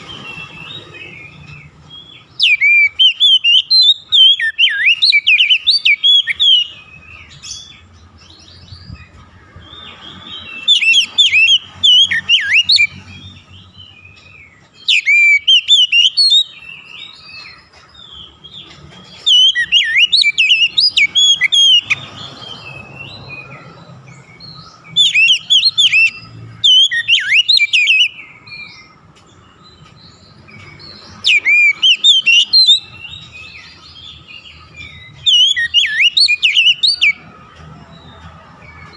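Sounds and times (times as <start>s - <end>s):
bird whistled song: 0.0s - 38.9s.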